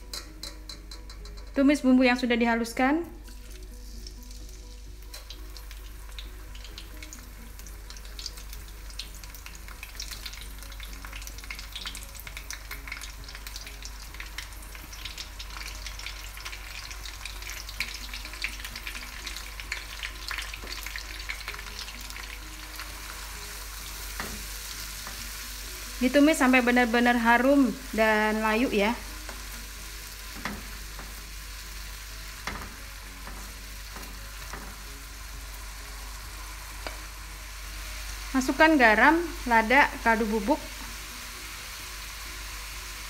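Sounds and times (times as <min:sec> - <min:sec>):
paste sizzling in hot oil: 0:03.2 - 0:43.0.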